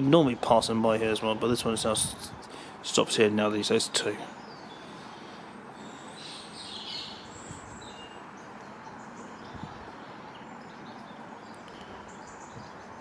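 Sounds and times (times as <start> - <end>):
birds chirping: 0.0 - 13.0
outdoor ambience hiss: 0.0 - 13.0.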